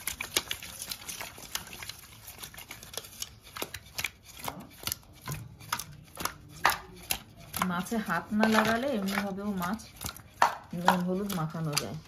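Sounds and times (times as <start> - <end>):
wet fish slapping in metal bowl: 0.0 - 12.0.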